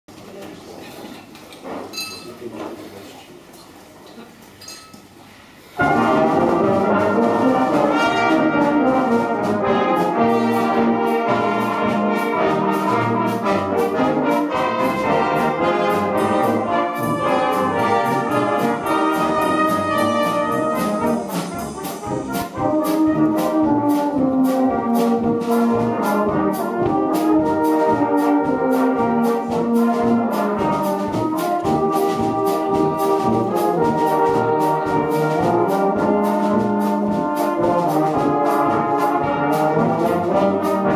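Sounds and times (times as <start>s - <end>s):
brass band playing: 5.6s - 40.9s
steady drum beat: 5.8s - 40.9s.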